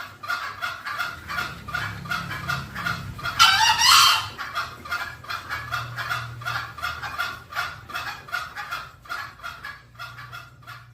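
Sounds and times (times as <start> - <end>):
junglefowl clucking call: 0.0 - 10.9.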